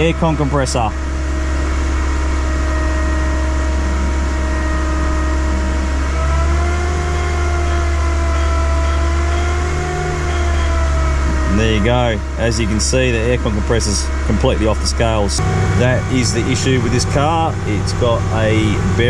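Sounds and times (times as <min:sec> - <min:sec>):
car engine running: 0:00.0 - 0:19.0
steady engine whine: 0:00.0 - 0:19.0.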